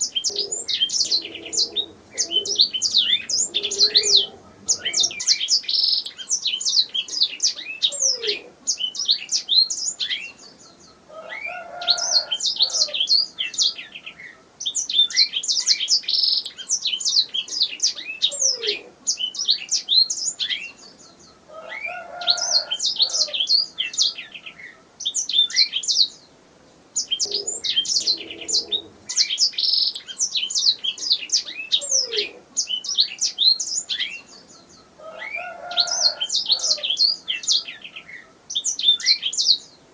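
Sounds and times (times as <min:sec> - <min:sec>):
canary singing trilled phrases: 0:00.0 - 0:10.6, 0:11.4 - 0:21.0, 0:27.0 - 0:39.7.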